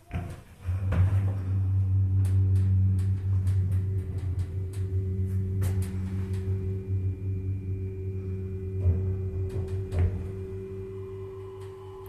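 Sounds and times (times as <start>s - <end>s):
lift drive hum: 0.6s - 12.0s
faint high whine: 0.7s - 12.0s.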